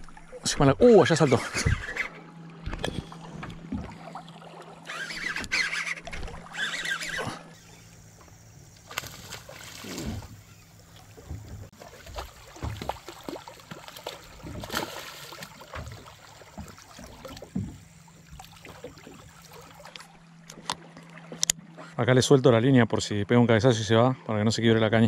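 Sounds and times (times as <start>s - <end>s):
water splashing against boat: 0.0s - 22.5s.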